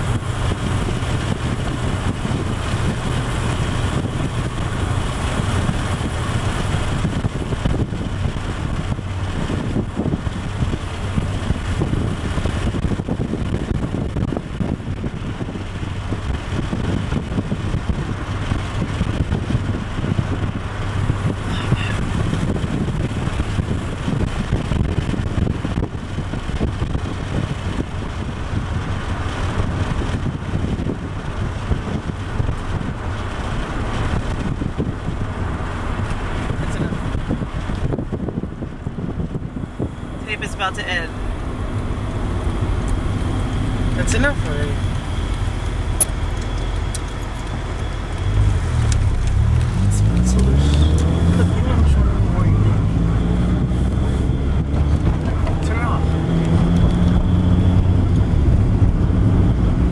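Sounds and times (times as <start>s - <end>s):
car engine drone: 0.0s - 59.9s
road and wind noise: 0.0s - 59.9s.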